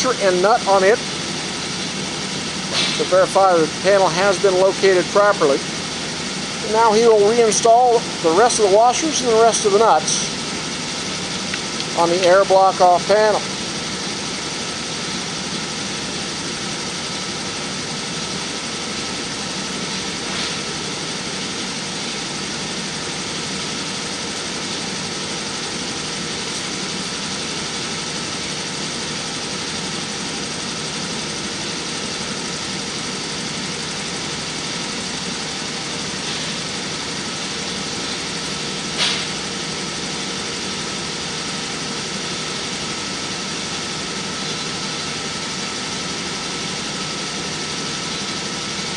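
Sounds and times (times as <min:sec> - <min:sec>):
machinery hum and hiss: 0:00.0 - 0:48.9.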